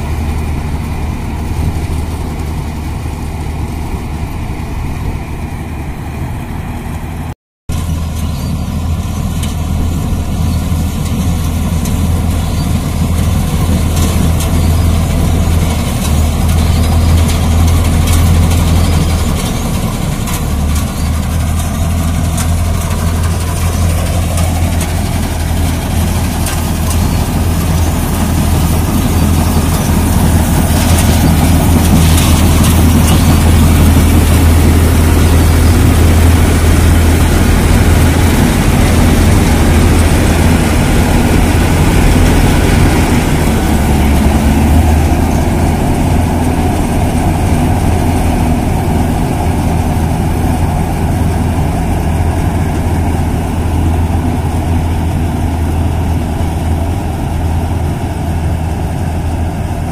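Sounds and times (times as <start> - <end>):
tractor engine droning: 0.0 - 59.9
cutter and threshing machinery: 7.7 - 59.9.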